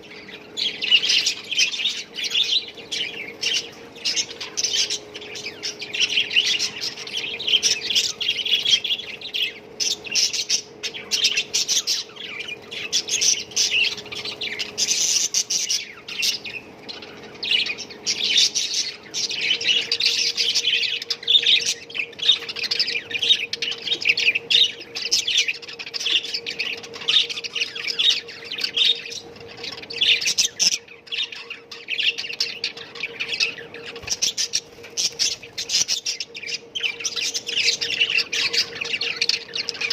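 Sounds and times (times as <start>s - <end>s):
budgerigars chattering and chirping: 0.0s - 39.9s
faint steady hum: 0.0s - 39.9s.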